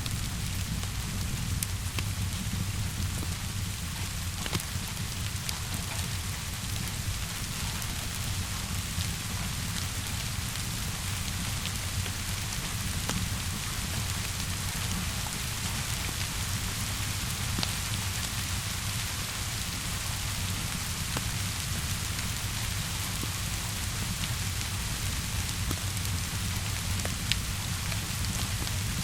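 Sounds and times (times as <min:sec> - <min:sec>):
rain hissing on a surface: 0:00.0 - 0:29.0
wood fire crackling: 0:00.0 - 0:29.0.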